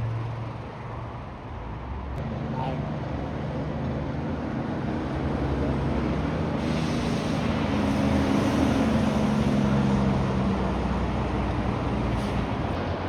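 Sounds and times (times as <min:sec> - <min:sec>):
truck diesel engine passing: 0:00.0 - 0:13.0
tyre and road noise: 0:00.0 - 0:13.0.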